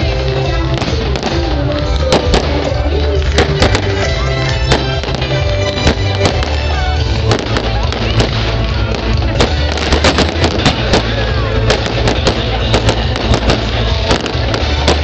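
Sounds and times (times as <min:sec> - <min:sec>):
fireworks bursting and crackling: 0:00.0 - 0:15.0
loud music with strong bass: 0:00.0 - 0:15.0.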